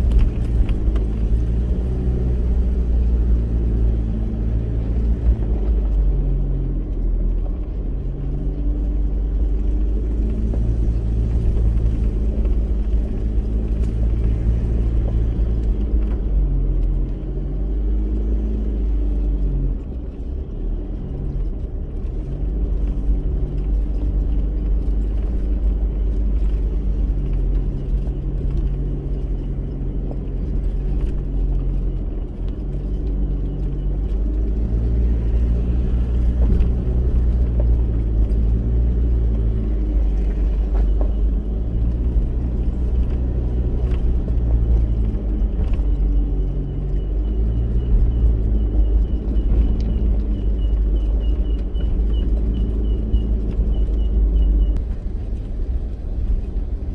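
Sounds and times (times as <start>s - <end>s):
vehicle engine and tyres rumbling: 0.0s - 56.9s.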